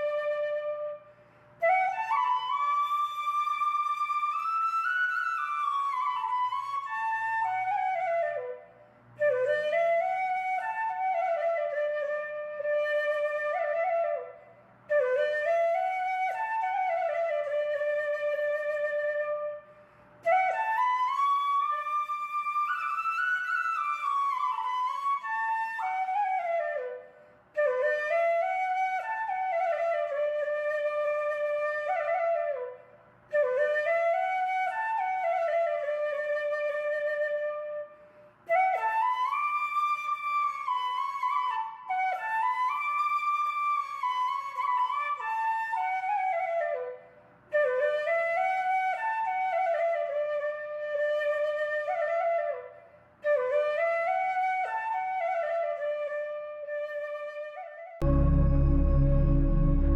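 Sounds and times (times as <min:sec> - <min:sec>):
solo flute slow melody: 0:00.0 - 0:59.9.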